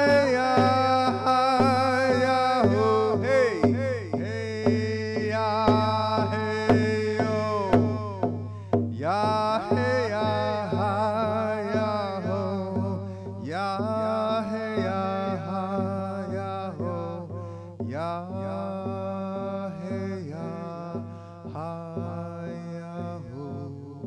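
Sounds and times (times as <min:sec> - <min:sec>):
hand drum beating: 0:00.0 - 0:24.0
man singing chant-like song: 0:00.0 - 0:24.0.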